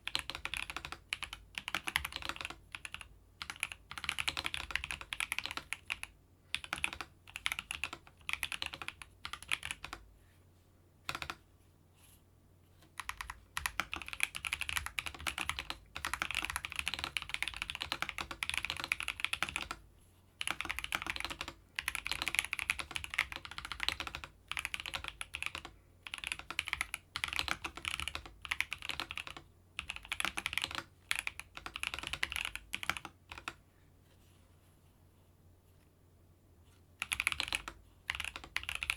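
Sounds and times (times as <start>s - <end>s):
mechanical keyboard typing: 0.0s - 10.0s, 11.1s - 11.4s, 13.0s - 19.8s, 20.4s - 33.6s, 37.0s - 38.9s.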